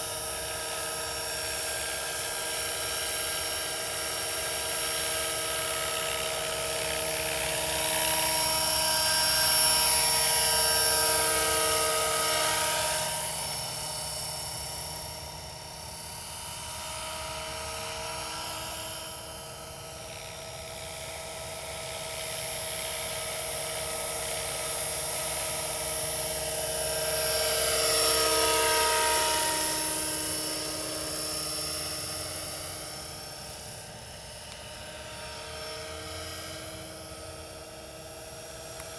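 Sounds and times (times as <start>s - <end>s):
model helicopter whine: 0.0s - 38.9s.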